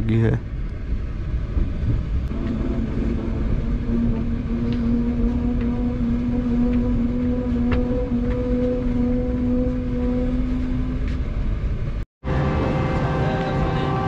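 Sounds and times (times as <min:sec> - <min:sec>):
low hum: 0:00.0 - 0:14.0
train rumbling on track: 0:00.0 - 0:14.0.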